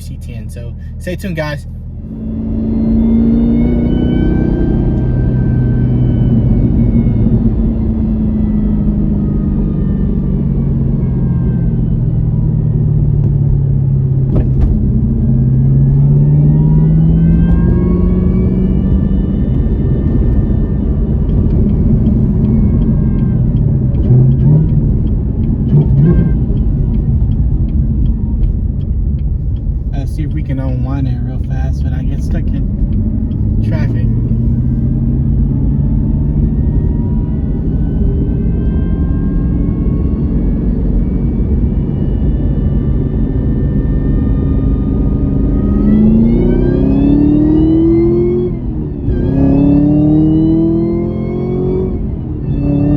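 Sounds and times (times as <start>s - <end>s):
car engine: 0.0s - 52.9s
road rumble: 0.0s - 52.9s.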